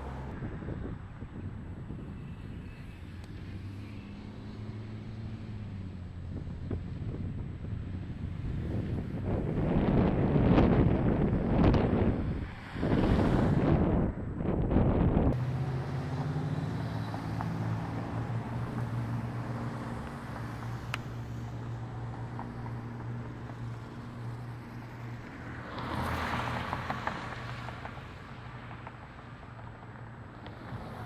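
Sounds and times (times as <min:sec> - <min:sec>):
rush of passing vehicle: 0:00.0 - 0:31.0.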